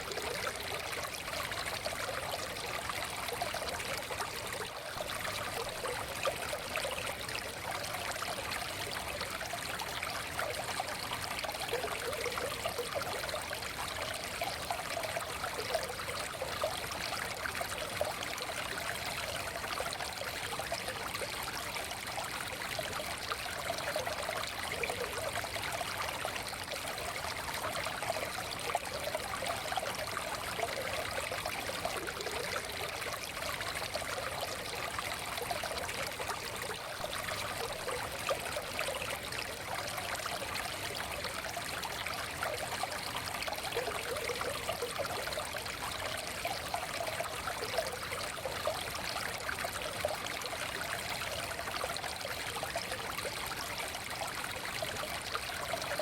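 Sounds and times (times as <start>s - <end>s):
stream flowing over stones: 0.0s - 56.0s.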